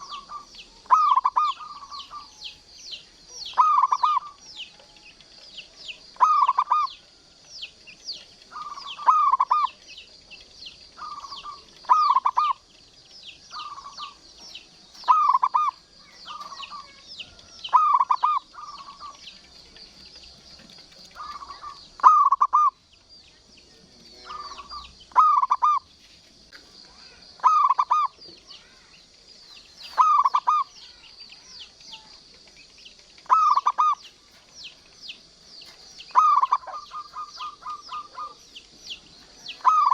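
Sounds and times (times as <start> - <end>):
dove cooing: 0.0 - 7.5, 8.4 - 22.8, 23.8 - 25.9, 27.0 - 28.9, 29.8 - 39.9.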